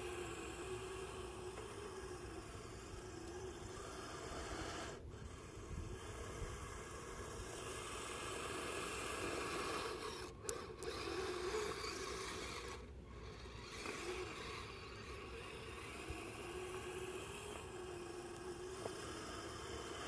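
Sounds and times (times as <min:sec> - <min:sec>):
faint motor whine: 0:00.0 - 0:20.0
rc vehicle scraping over snow: 0:00.0 - 0:20.0.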